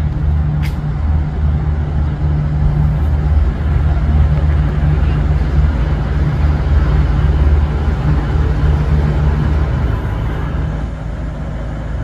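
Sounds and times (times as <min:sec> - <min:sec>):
diesel train engines humming: 0:00.0 - 0:12.0.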